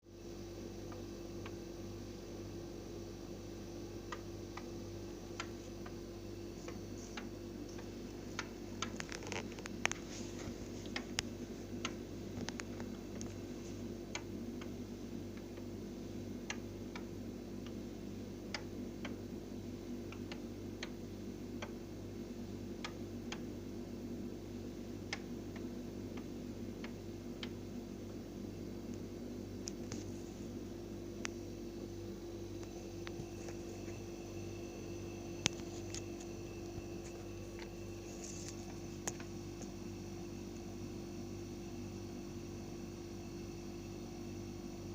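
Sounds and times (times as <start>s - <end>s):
refrigerator humming: 0.1s - 44.9s.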